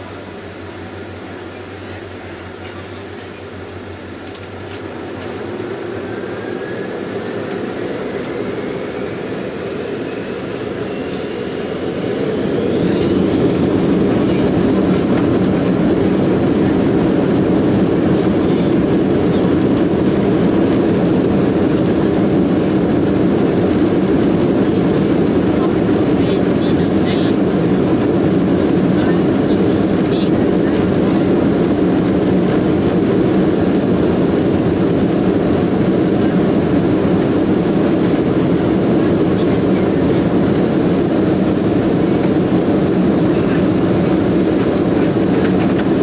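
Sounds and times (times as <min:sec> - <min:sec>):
jet engine roar: 0:00.0 - 0:46.0
rising engine whine: 0:00.0 - 0:46.0.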